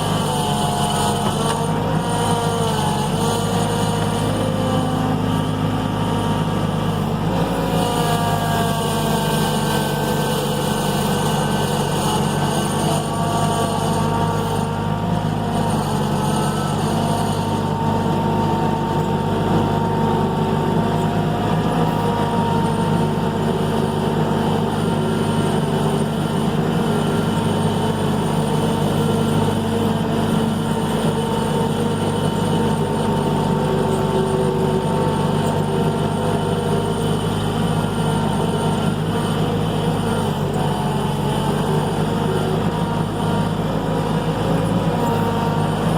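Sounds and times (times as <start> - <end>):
skid steer engine running: 0.0 - 45.9.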